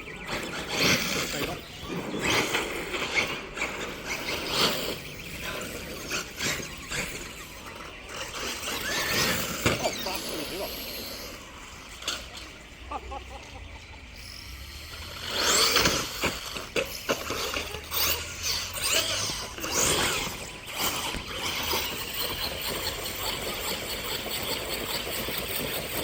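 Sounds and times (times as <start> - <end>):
electric motor whine: 0.0 - 12.9, 14.1 - 26.0.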